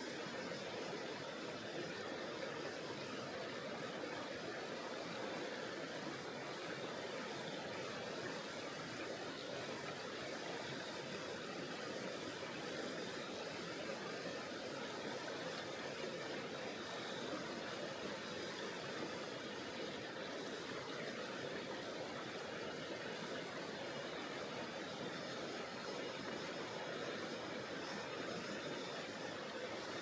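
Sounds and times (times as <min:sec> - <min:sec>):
river rushing over rocks: 0:00.0 - 0:30.0.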